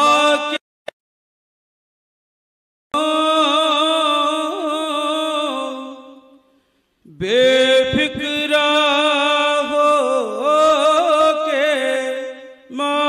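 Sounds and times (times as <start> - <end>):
man singing slowly: 0.0 - 0.6, 3.0 - 13.0.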